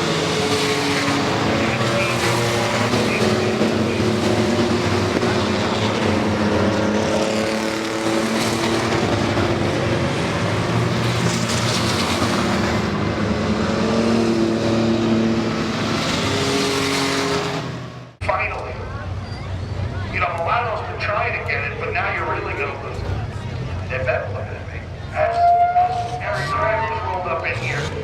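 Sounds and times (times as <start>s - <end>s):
racing truck engines: 0.0s - 28.0s.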